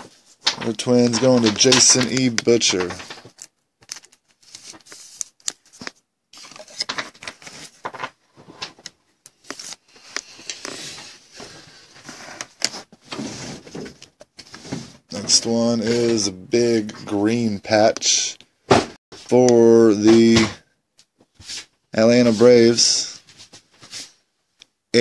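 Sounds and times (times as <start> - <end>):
rustling of cards and box: 0.0 - 17.4, 21.2 - 24.2.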